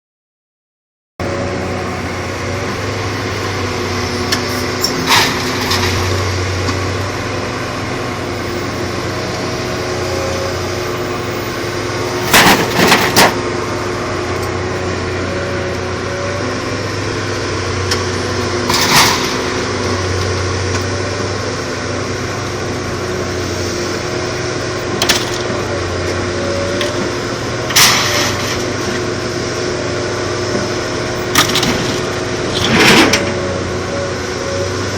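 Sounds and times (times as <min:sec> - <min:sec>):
machinery humming: 0:01.2 - 0:34.9.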